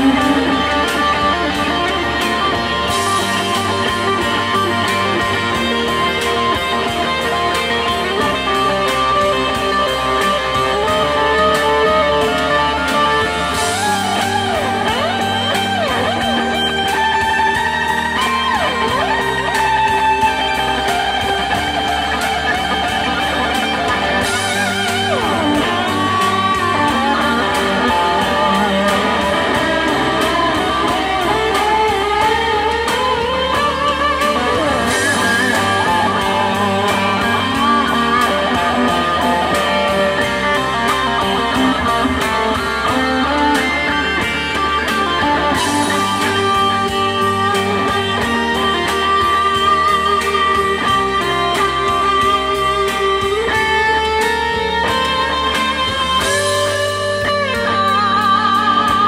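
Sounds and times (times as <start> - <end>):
country-rock backing track: 0.0 - 59.0
electric guitar lead: 0.0 - 59.0
steady drum beat: 0.0 - 59.0.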